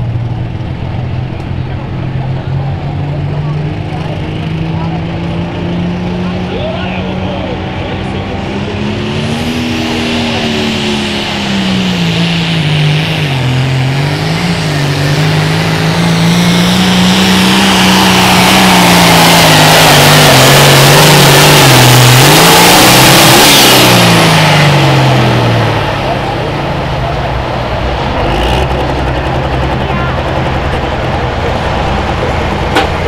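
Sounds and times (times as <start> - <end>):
tractor diesel engine at full throttle: 0.0 - 33.0.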